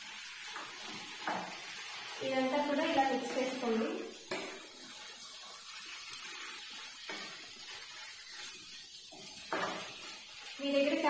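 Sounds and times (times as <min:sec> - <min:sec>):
spatula stirring food in pan: 0:00.0 - 0:11.0.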